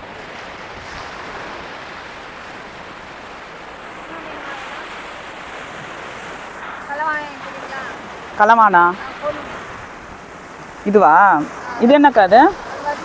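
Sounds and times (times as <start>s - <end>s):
sea surf on beach: 0.0s - 13.0s
wind on microphone: 0.0s - 13.0s.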